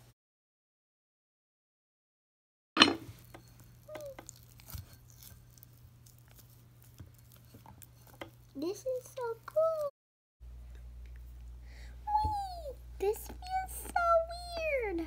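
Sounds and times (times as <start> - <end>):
low steady hum: 2.8 - 15.0.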